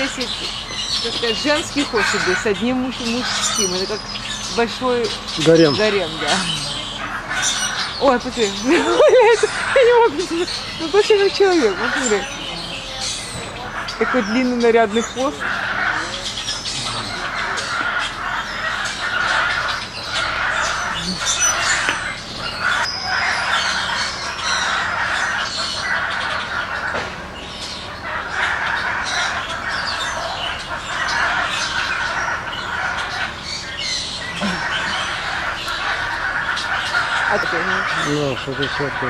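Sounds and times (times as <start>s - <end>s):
animals squawking and screeching: 0.0s - 39.0s.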